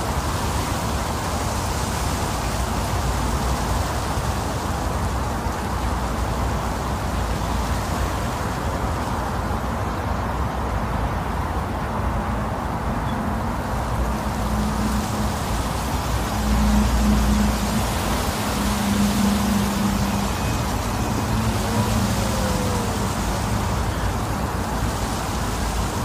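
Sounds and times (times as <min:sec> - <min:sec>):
wind blowing: 0:00.0 - 0:26.0.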